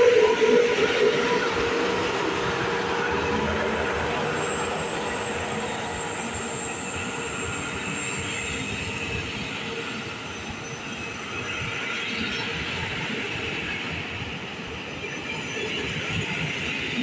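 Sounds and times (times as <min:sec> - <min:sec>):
train rumble and rail noise: 0:00.0 - 0:17.0
wheels squealing on rails: 0:00.0 - 0:17.0.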